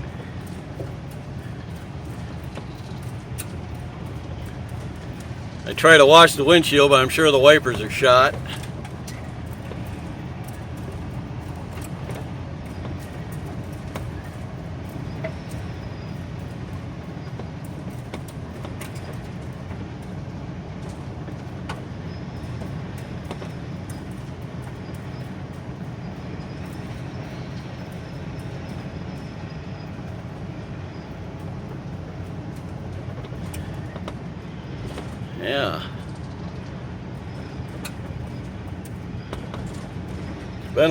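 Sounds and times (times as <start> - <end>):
motorhome engine drone: 0.0 - 40.9.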